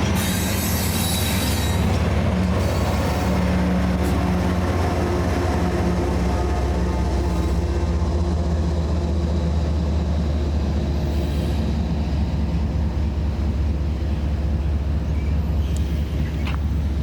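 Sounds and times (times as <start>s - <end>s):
diesel locomotive drone: 0.0s - 17.0s.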